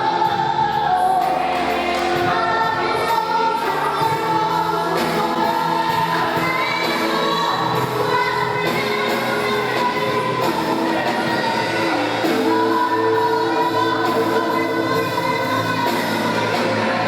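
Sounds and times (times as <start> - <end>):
congregation singing a hymn: 0.0 - 17.0
instrumental accompaniment: 0.0 - 17.0.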